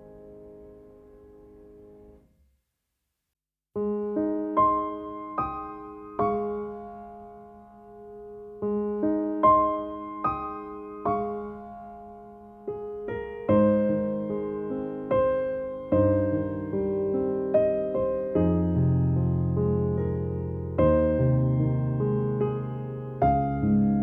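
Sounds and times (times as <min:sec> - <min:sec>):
slow calm piano music: 0:00.0 - 0:02.3, 0:03.8 - 0:24.0.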